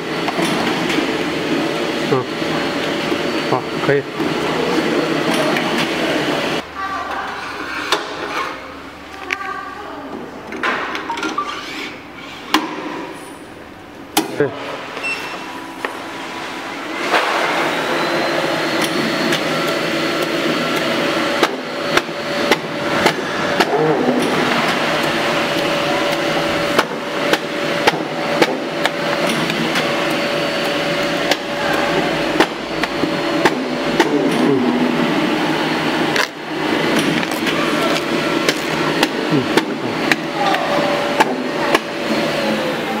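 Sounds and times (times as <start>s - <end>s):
machine motor and roller hum: 0.0s - 6.6s, 7.2s - 9.1s, 11.6s - 43.0s.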